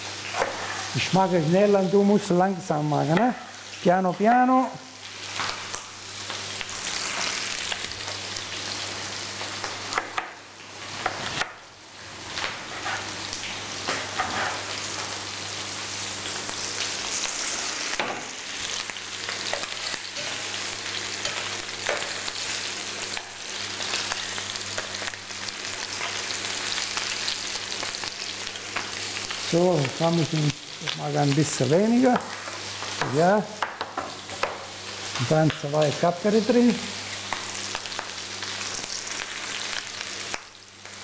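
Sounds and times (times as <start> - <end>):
food sizzling in frying pans: 0.0 - 41.0.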